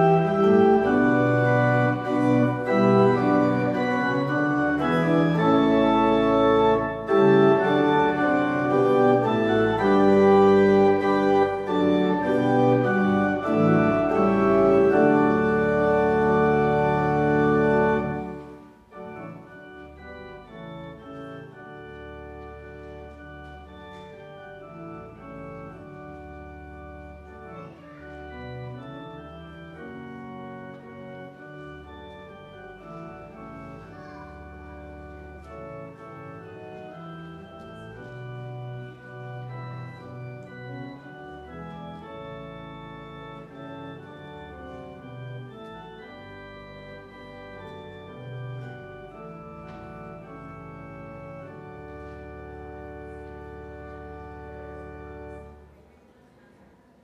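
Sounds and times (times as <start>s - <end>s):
church organ playing chords: 0.0s - 55.9s.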